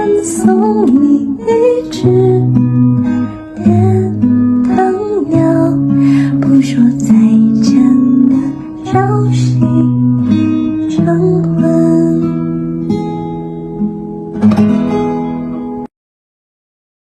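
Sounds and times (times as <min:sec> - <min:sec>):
acoustic guitar plucking: 0:00.0 - 0:15.9.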